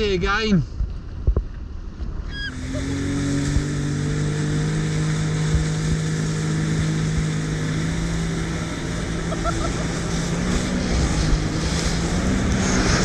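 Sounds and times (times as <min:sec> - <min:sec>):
jet ski engine drone: 0:00.8 - 0:13.0
water rushing against hull: 0:01.1 - 0:13.0.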